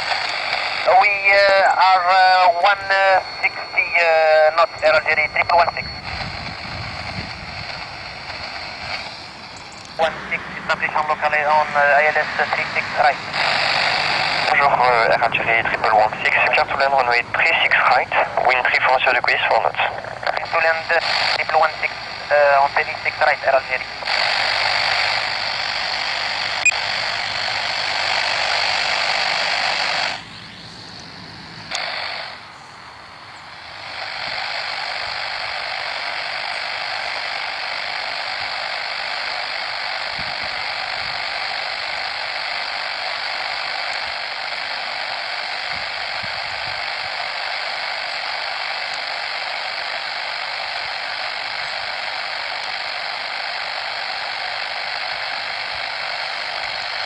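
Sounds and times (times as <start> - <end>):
radio static hiss: 0.0 - 57.0.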